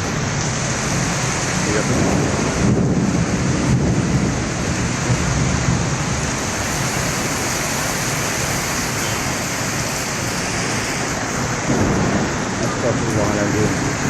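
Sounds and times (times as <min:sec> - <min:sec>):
heavy rain in wind: 0:00.0 - 0:14.0.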